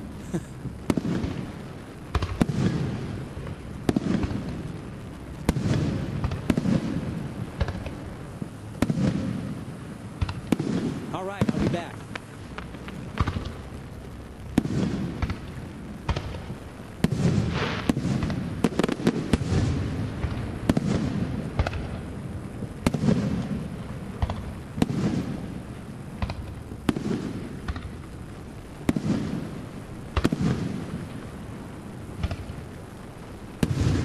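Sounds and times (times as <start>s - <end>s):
fireworks cracking and booming: 0.0s - 34.0s.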